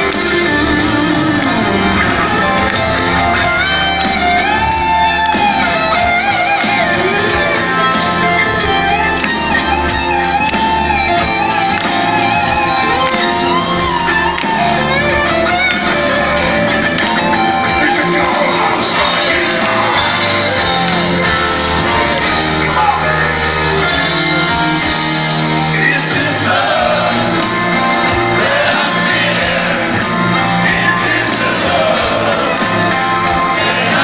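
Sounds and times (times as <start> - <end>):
live rock band playing: 0.0 - 34.0.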